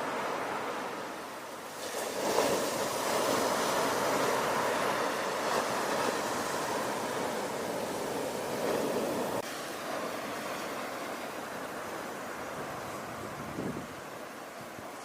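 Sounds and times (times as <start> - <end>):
ocean wave breaking: 0.0 - 14.4
rush of foaming water: 0.0 - 15.0.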